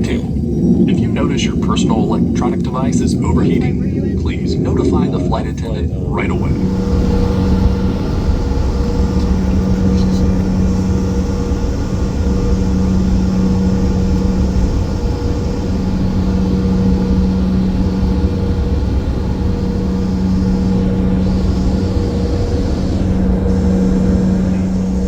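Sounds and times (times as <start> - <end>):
airliner cabin rumble: 0.0 - 25.0
constant hum: 0.0 - 25.0.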